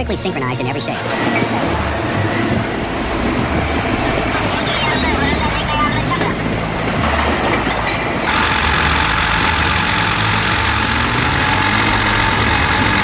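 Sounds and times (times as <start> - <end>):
diesel engines running: 0.0 - 13.0
high steady whine: 0.0 - 13.0.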